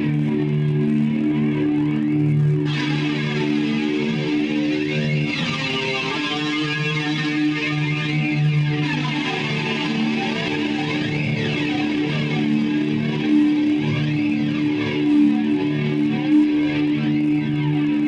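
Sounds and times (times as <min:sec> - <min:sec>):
electric guitar long held notes: 0:00.0 - 0:18.0.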